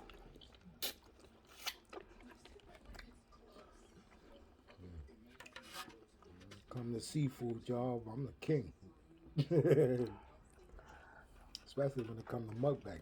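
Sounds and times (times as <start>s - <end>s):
quiet chewing: 0.0s - 7.8s, 8.4s - 13.0s.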